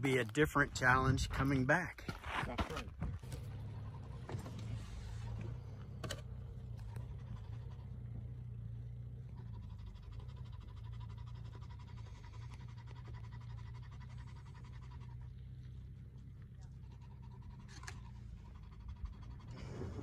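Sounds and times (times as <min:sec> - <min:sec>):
vehicle engine running low: 0:03.0 - 0:20.0.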